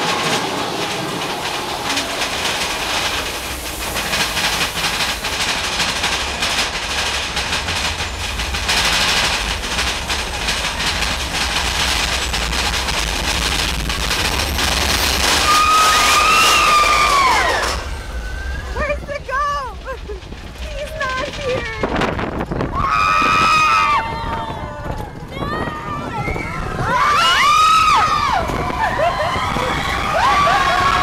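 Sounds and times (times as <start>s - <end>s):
roller coaster cars rattling: 0.0s - 31.0s.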